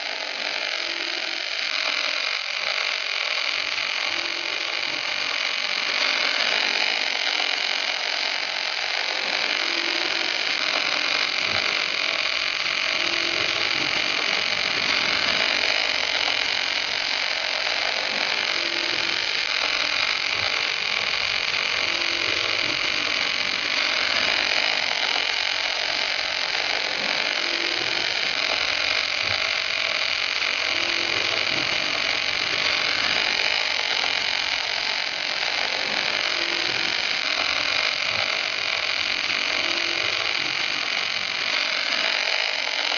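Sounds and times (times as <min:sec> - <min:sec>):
welding arc hissing: 0:00.0 - 0:42.9.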